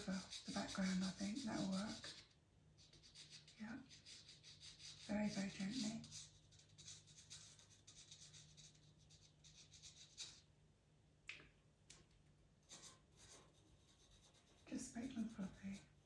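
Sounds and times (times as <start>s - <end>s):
pastel pencil strokes on paper: 0.0s - 10.4s, 12.7s - 16.0s.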